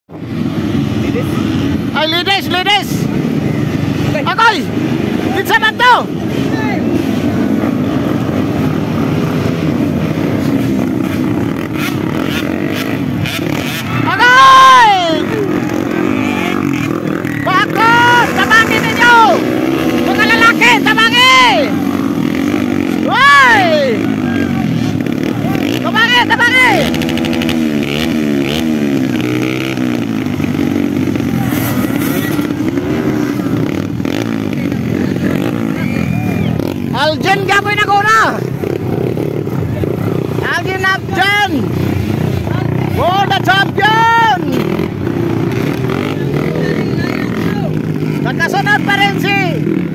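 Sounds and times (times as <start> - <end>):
dirt bike engines revving: 0.1 - 49.9.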